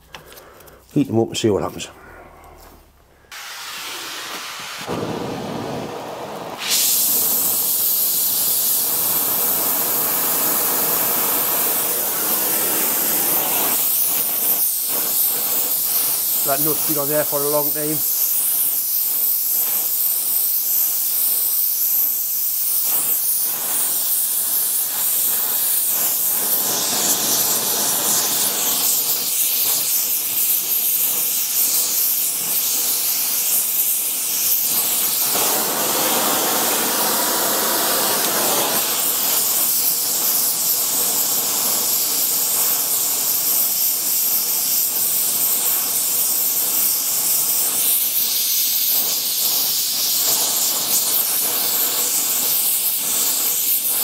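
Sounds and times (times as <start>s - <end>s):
gas torch flame hissing: 0.0s - 54.0s.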